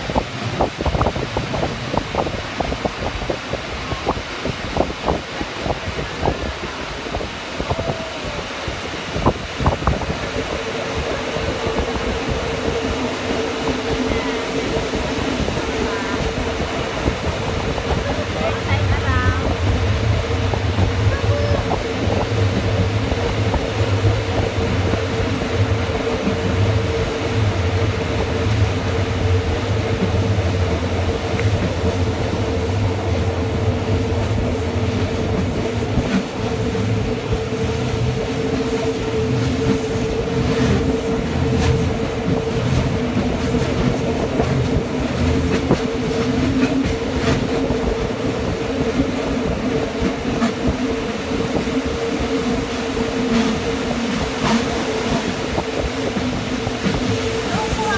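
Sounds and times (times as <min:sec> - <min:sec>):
electric train humming and rumbling: 0:00.0 - 0:57.9
wheels clicking on rails: 0:09.2 - 0:57.9.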